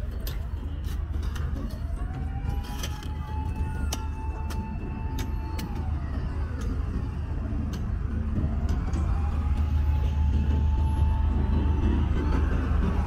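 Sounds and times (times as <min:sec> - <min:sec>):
traffic rumble: 0:00.0 - 0:13.0
vehicle whine: 0:00.0 - 0:13.0.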